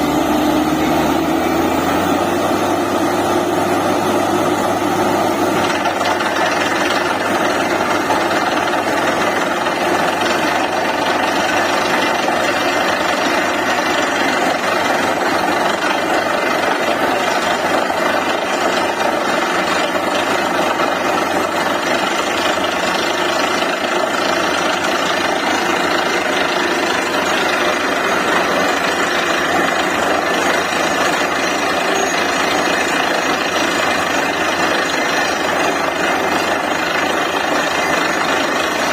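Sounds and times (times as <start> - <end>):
drilling rig engine running: 0.0 - 38.9
drilling hammer rattling: 5.4 - 38.9.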